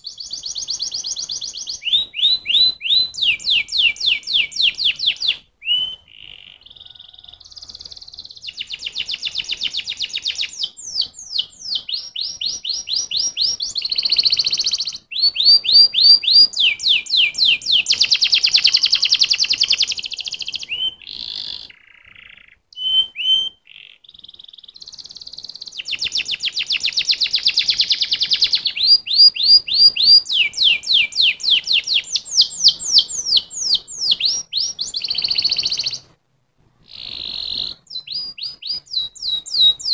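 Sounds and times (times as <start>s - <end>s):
canary singing: 0.0s - 36.2s, 36.8s - 39.9s.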